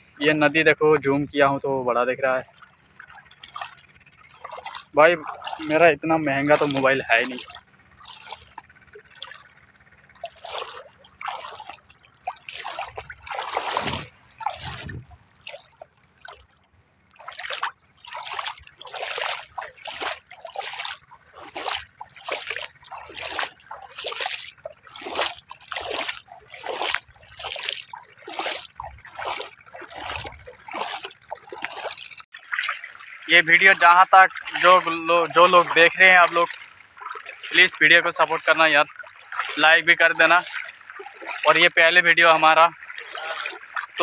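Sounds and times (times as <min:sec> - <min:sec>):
river water splashing and trickling: 0:00.0 - 0:44.0.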